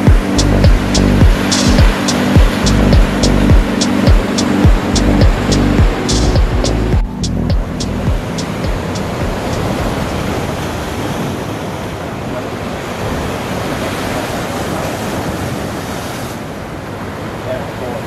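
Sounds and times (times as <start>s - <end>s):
sea surf washing over rocks: 0.0s - 6.6s, 7.8s - 18.0s.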